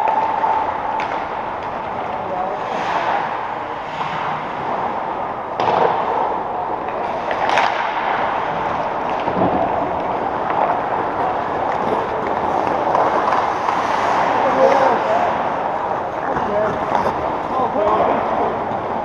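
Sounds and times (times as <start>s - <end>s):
echoing sports arena noise: 0.0s - 19.0s.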